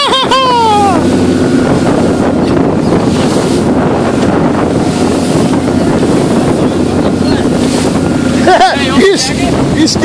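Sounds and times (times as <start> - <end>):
boat engine droning: 0.0 - 10.0
waves and spray against hull: 0.0 - 10.0
wind buffeting microphone: 0.0 - 10.0.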